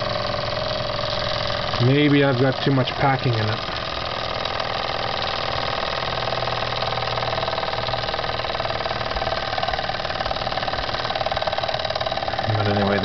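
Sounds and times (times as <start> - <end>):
toy steam engine running: 0.0 - 13.0.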